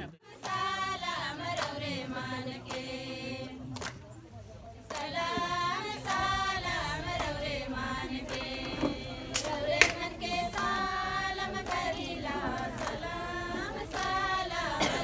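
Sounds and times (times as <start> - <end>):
group of women singing: 0.1 - 4.2, 4.8 - 15.0.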